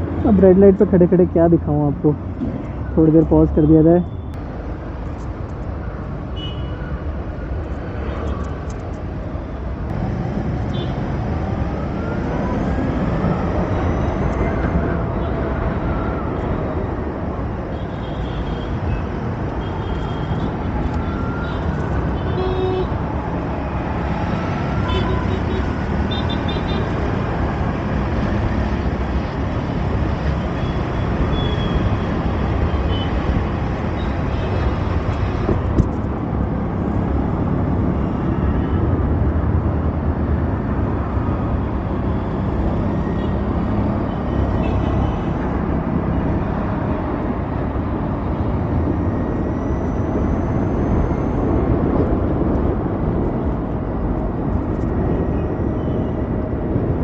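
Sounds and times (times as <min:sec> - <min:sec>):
road traffic rumble and hiss: 0:00.0 - 0:57.0.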